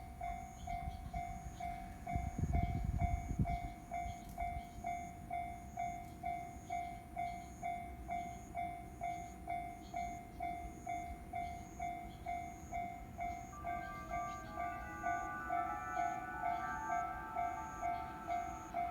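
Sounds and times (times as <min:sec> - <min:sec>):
level crossing alarm ringing: 0:00.0 - 0:18.9.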